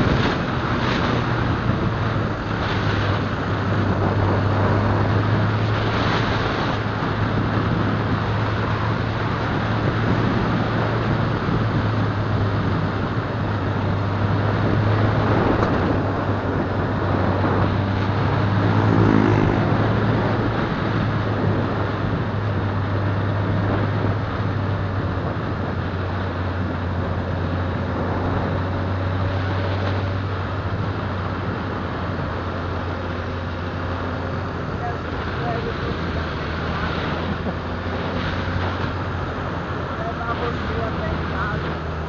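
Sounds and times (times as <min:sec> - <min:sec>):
wind and road rush: 0:00.0 - 0:42.0.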